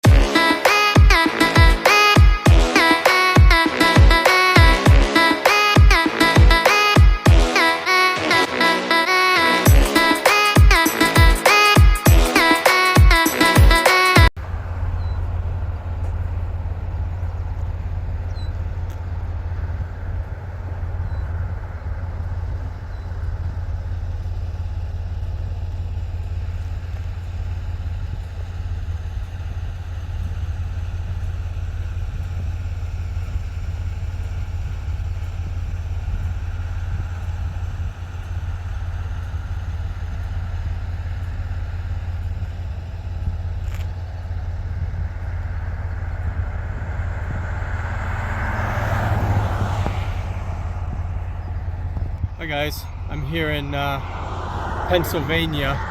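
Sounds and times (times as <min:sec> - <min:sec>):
road noise rushing: 0:00.0 - 0:55.9
truck engine drone: 0:00.0 - 0:55.9.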